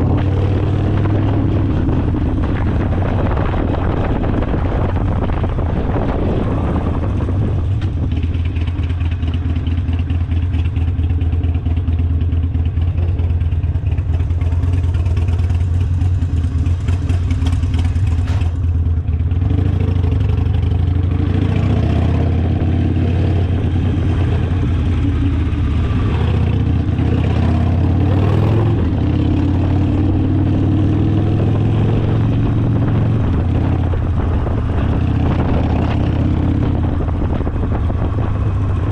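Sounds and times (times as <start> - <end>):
motorcycle engine deep exhaust note: 0.0 - 38.9.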